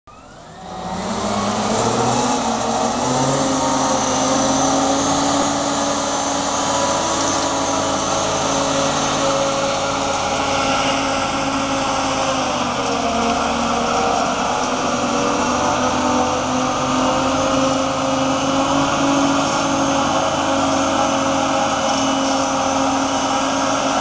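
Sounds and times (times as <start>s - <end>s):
forklift engine running: 0.1s - 24.0s.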